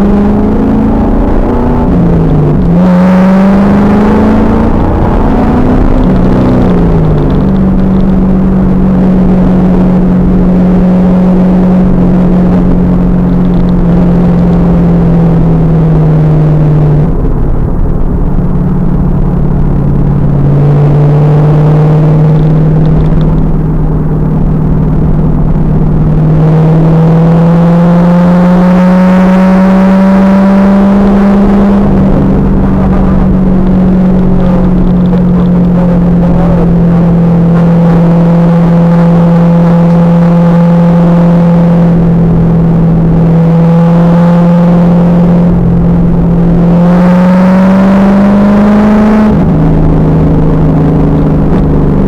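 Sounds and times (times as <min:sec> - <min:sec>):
car engine revving under load: 0:00.0 - 0:52.0.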